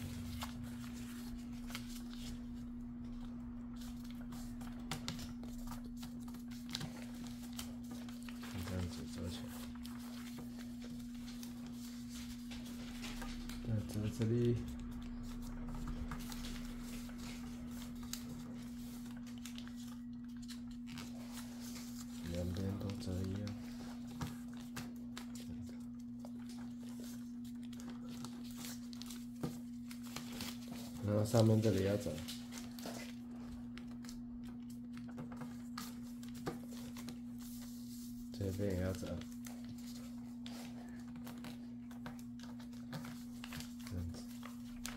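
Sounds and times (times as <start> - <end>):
paper rustling and crinkling: 0.0 - 44.9
steady low hum: 0.0 - 44.9.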